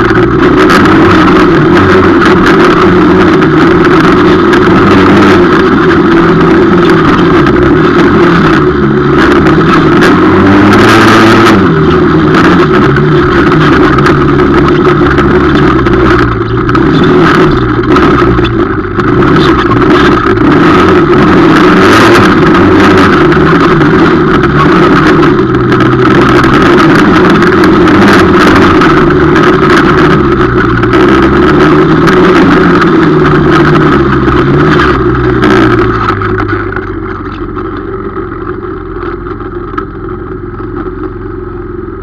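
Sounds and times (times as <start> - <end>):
quad engine revving: 0.0 - 42.0.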